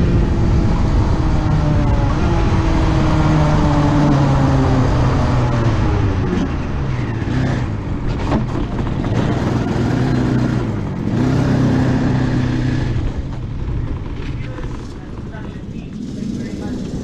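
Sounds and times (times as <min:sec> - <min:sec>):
kart engine running: 0:00.0 - 0:17.0.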